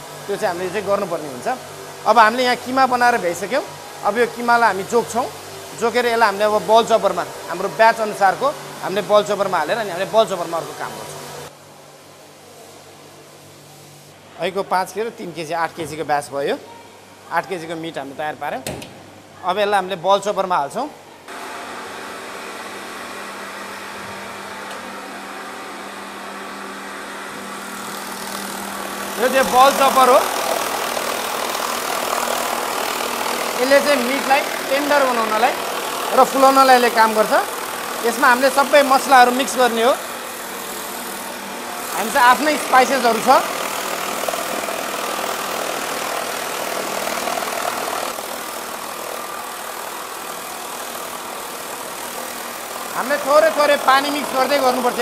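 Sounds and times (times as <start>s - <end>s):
bowl chopper motor humming: 0.0s - 11.9s, 21.1s - 55.0s.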